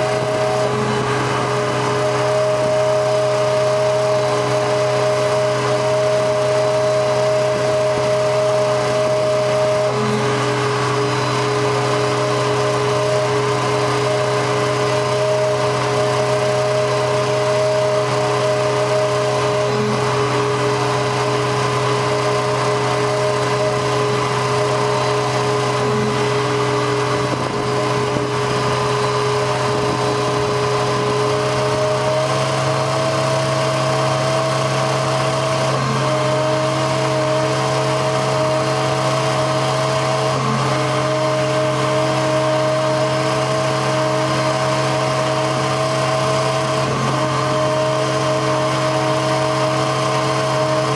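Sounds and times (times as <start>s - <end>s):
hydraulic whine: 0.0s - 50.9s
truck engine running: 0.0s - 50.9s.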